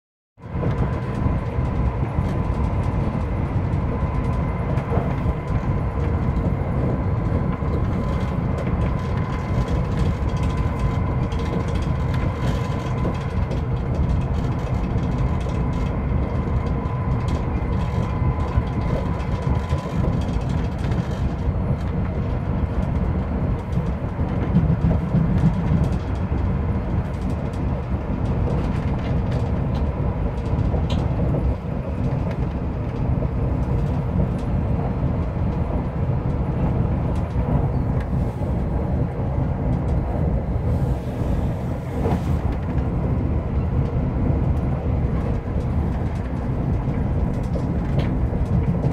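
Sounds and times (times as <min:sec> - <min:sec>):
train rumble inside carriage: 0:00.4 - 0:48.9.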